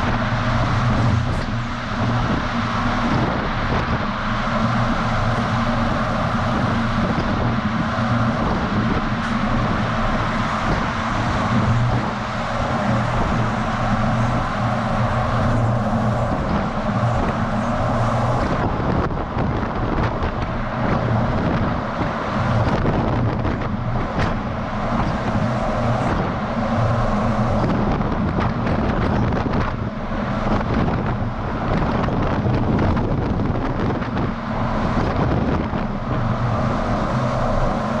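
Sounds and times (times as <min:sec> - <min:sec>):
road and wind noise: 0:00.0 - 0:38.0
truck engine hum: 0:00.0 - 0:38.0.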